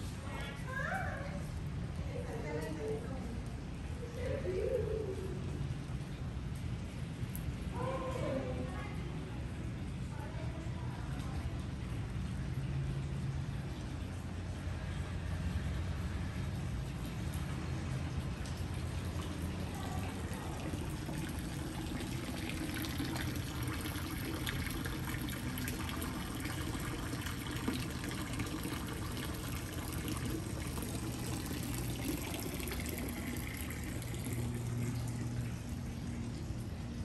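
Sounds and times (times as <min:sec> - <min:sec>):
fountain water trickling: 0:00.0 - 0:37.0.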